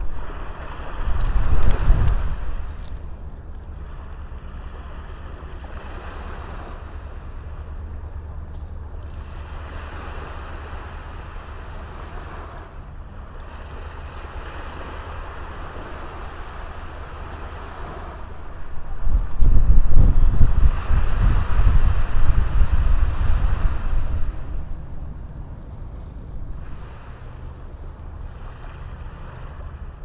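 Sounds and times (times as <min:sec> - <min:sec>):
small waves washing onto beach: 0:00.0 - 0:30.0
wind rumble on microphone: 0:00.0 - 0:30.0.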